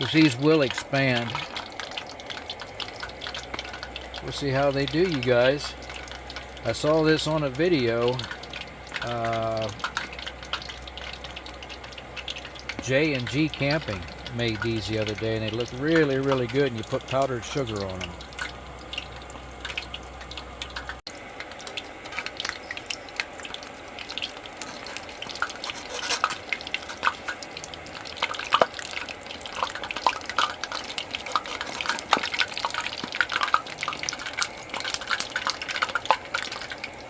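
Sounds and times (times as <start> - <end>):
dough sizzling in hot oil: 0.0 - 37.0
oil popping: 0.0 - 37.0.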